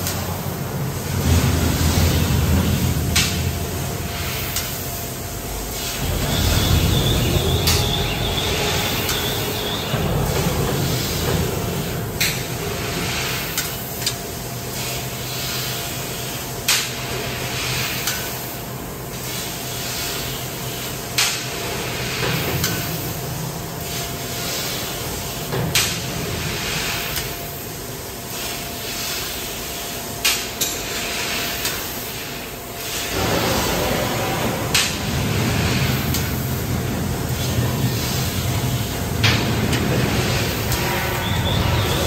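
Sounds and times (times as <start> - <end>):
low machine hum: 0.0 - 26.8, 32.6 - 42.0
laser cutter hissing: 0.0 - 42.0.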